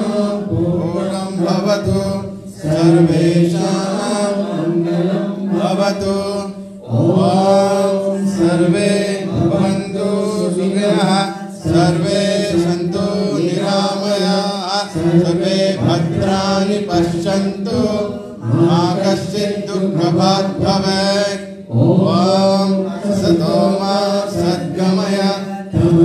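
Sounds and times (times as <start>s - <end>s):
voices chanting: 0.0s - 26.0s.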